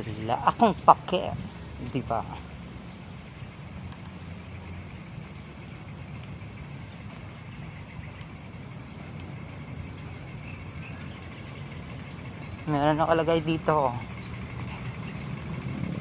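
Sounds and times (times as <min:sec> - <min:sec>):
low rumble and hiss of ambience: 0:00.0 - 0:16.0.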